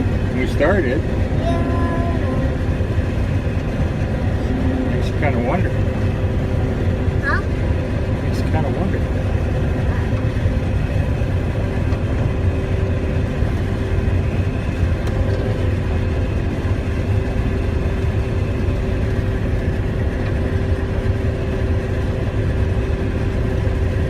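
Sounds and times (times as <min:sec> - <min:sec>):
combine engine rumble: 0:00.0 - 0:24.0
machinery hum: 0:00.0 - 0:24.0.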